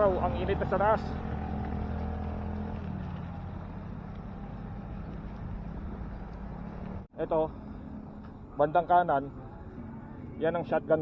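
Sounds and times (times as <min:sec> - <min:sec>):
road and traffic noise: 0:00.0 - 0:11.0
vehicle engine humming: 0:00.0 - 0:11.0.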